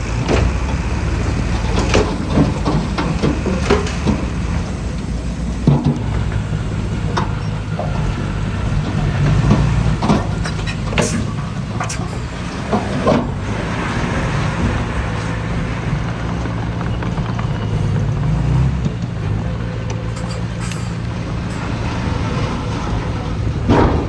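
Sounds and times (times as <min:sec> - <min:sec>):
diesel machinery droning: 0:00.0 - 0:24.0
metallic clanks and knocks: 0:00.0 - 0:24.0.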